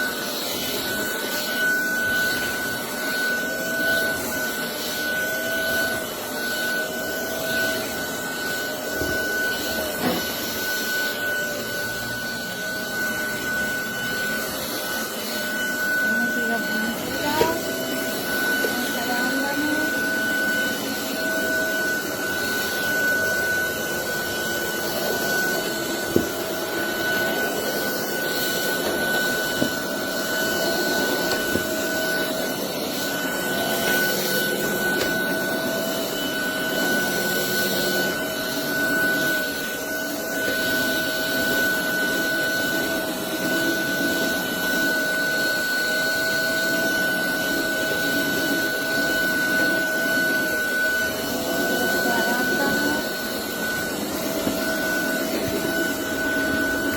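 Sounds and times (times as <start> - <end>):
cordless vacuum whining: 0.0 - 56.9.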